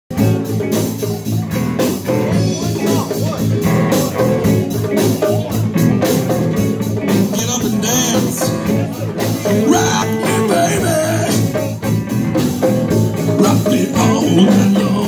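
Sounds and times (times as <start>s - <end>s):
bass guitar: 0.1s - 15.0s
congas: 0.1s - 15.0s
drum kit: 0.1s - 15.0s
electric guitars: 0.1s - 15.0s.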